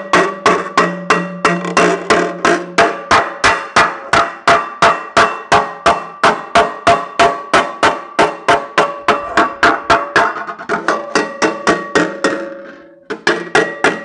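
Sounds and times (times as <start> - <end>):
hammer tapping sheet metal: 0.0 - 14.0.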